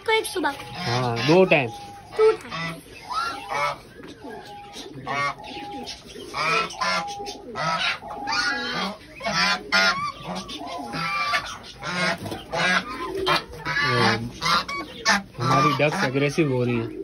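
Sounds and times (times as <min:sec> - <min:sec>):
geese honking: 0:00.4 - 0:17.0.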